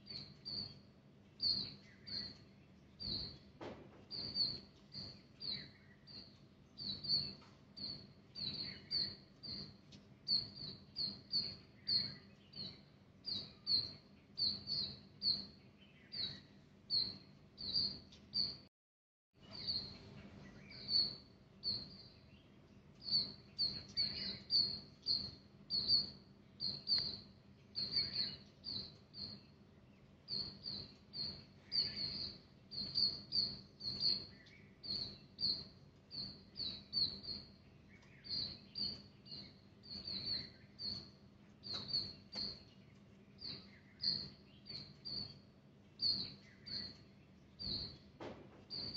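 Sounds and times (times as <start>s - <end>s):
small bird chirping: 0.0s - 18.7s, 19.4s - 48.9s.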